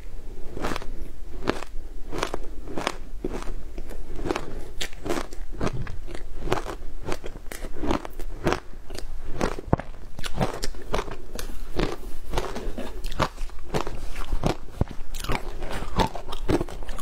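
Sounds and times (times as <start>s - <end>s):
crushed ice being chewed: 0.4s - 17.0s.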